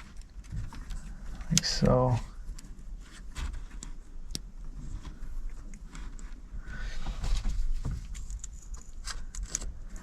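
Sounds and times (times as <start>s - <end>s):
hands rustling wires: 0.0s - 10.0s.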